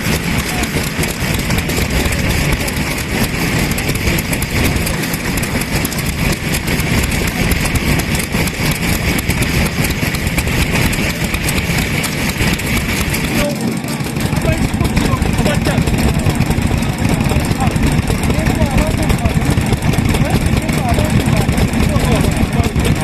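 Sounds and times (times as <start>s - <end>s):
stationary engine chugging: 0.0s - 23.0s.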